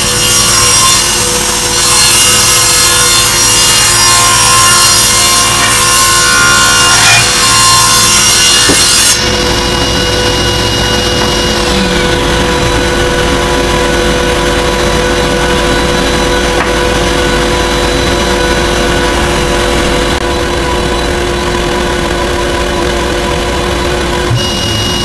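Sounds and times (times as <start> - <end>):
table saw cutting wood: 0.0 - 25.0
table saw running unloaded: 0.0 - 25.0.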